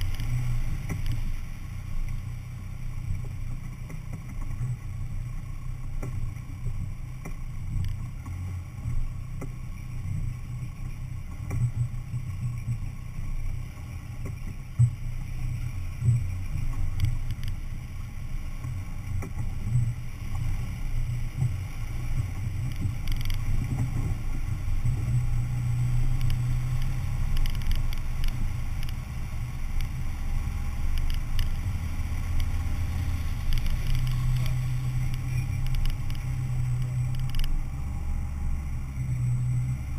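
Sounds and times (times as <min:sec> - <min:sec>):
engine low rumble: 0:00.0 - 0:39.9.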